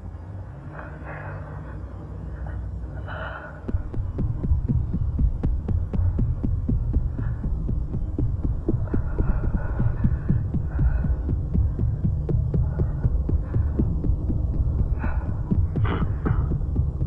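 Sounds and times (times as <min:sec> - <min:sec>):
low fast pulsing throb: 0:00.0 - 0:17.0
steady hum: 0:00.0 - 0:17.0.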